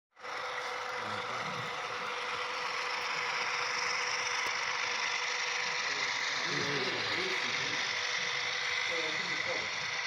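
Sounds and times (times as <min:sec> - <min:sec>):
model trains humming and whining: 0:00.1 - 0:10.0.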